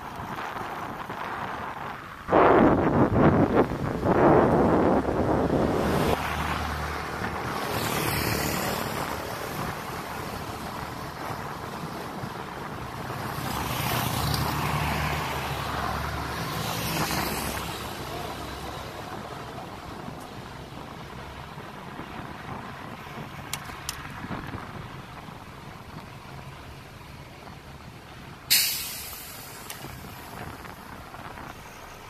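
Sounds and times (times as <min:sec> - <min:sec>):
wind buffeting microphone: 0:00.0 - 0:28.5, 0:29.3 - 0:32.0
motor vehicles passing: 0:00.0 - 0:32.0
road noise: 0:00.0 - 0:32.0.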